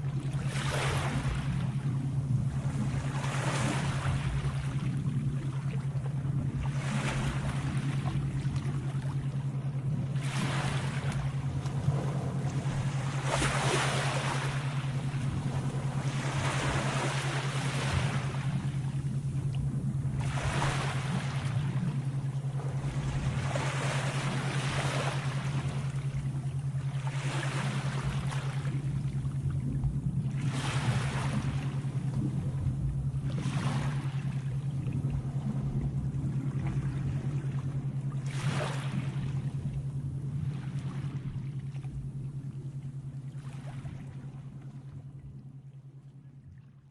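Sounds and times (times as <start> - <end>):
sea waves washing in: 0.0 - 45.2
steady low hum: 0.0 - 46.9.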